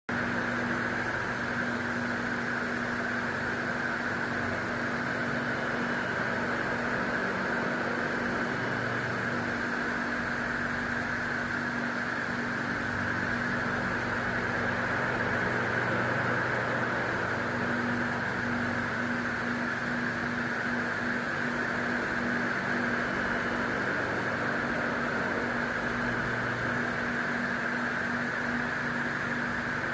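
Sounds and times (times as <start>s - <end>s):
fan air whoosh: 0.1s - 29.9s
low motor hum: 0.2s - 29.9s.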